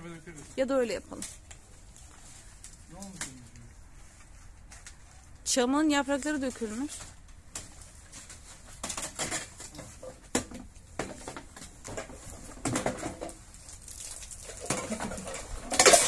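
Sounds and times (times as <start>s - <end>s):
rubbish rustling: 0.0s - 16.0s.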